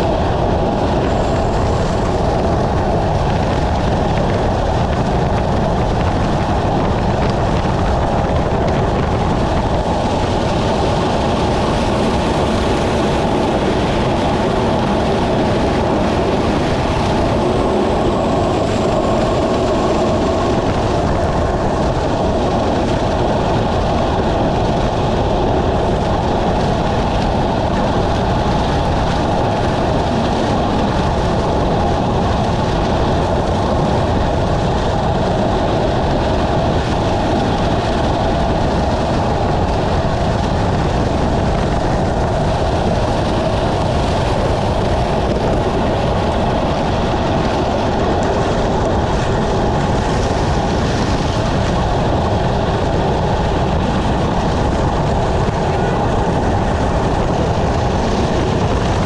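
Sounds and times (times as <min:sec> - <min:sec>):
heavy rain: 0:00.0 - 0:59.0
road noise: 0:00.0 - 0:59.0
wind noise on microphone: 0:00.0 - 0:59.0.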